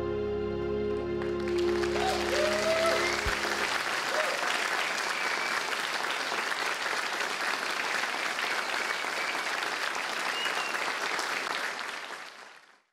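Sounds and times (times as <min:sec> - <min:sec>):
audience applauding: 0:01.2 - 0:12.9.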